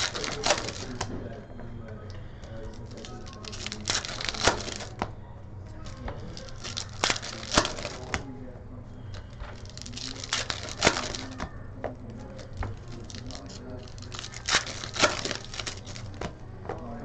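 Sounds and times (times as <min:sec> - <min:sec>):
wrappers crinkling and tearing: 0:00.0 - 0:01.3, 0:02.6 - 0:05.1, 0:05.7 - 0:08.3, 0:09.1 - 0:17.0.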